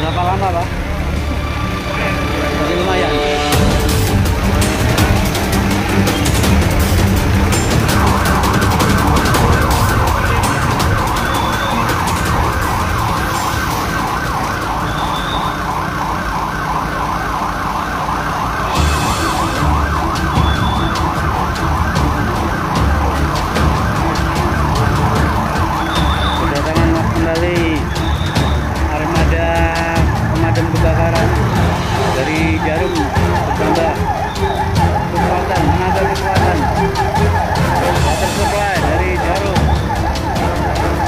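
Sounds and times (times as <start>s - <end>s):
fire truck siren yelp: 0.0s - 41.0s
low engine rumble: 0.0s - 41.0s.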